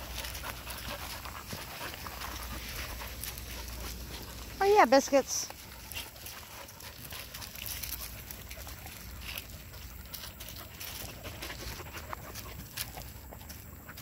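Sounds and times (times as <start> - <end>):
dogs scuffling and rustling: 0.0 - 14.0.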